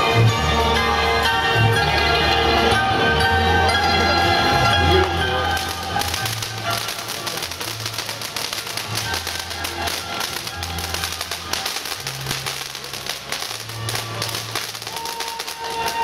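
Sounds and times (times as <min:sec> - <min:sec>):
fireworks fountains crackling: 0:00.0 - 0:16.0
music with low bass line: 0:00.0 - 0:16.0.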